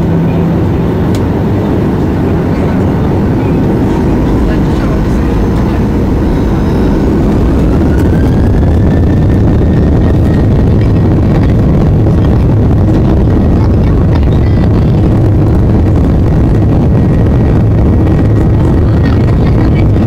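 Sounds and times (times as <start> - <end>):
jet engine whine: 0.0 - 20.0
low engine rumble: 0.0 - 20.0.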